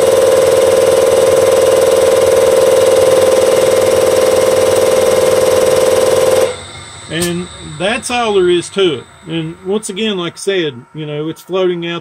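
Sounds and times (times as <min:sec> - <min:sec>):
injector test bench droning: 0:00.0 - 0:12.0.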